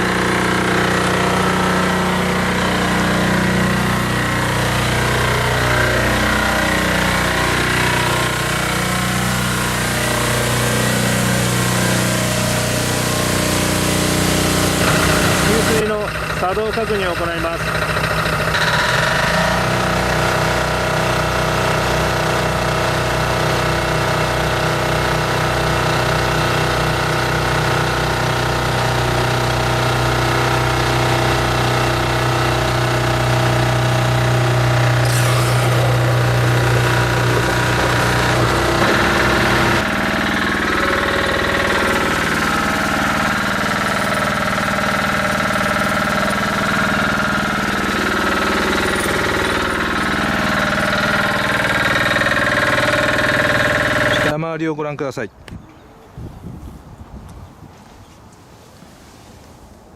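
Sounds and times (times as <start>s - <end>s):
diesel engine thumping: 0.0s - 21.9s, 23.8s - 54.4s.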